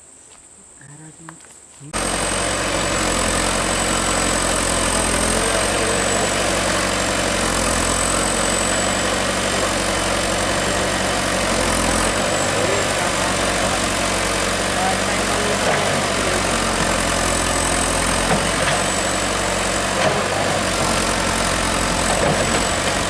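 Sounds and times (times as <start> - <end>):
backhoe digging soil: 1.9 - 23.0
diesel engine running: 1.9 - 23.0.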